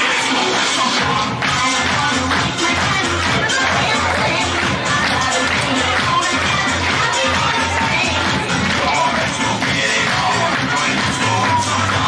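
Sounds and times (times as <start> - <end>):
loud dance music with bass beat: 0.0 - 12.0.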